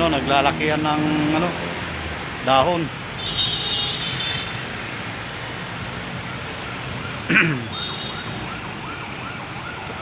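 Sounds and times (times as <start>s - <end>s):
city traffic noise: 0.0s - 10.0s.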